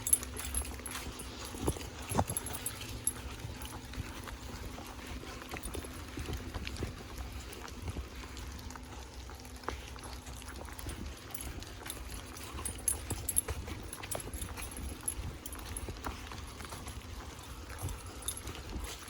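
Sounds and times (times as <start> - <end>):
footsteps on a trail: 0.0 - 19.0
light rain patter: 0.0 - 19.0.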